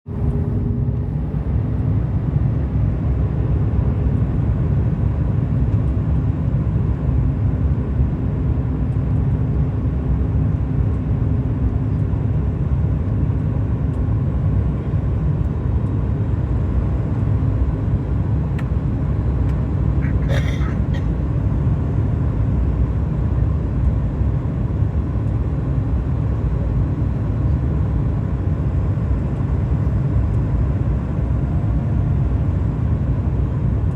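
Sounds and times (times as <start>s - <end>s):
airplane engine rumble: 0.1s - 33.9s.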